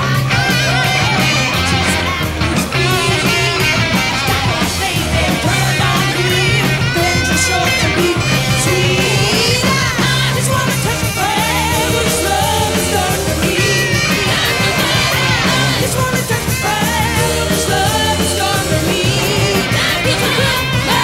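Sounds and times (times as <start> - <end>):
person singing: 0.0 - 21.0
rock band playing: 0.0 - 21.0.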